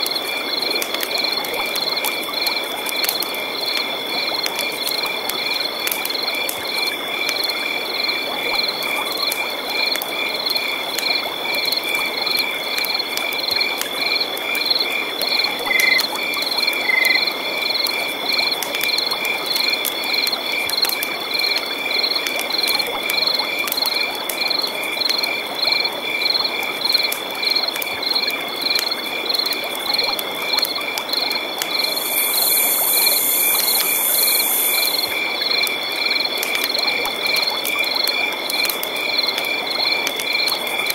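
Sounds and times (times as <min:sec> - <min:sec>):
frogs and insects calling: 0:00.0 - 0:40.9.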